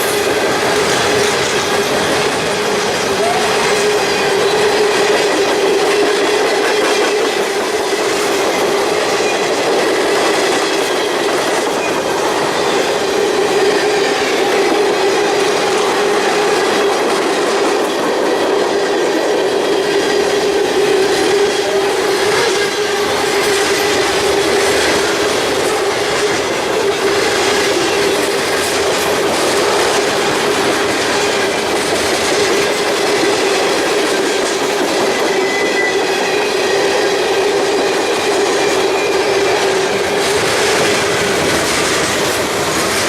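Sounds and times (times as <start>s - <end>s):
train cars rolling on rails: 0.0s - 43.0s.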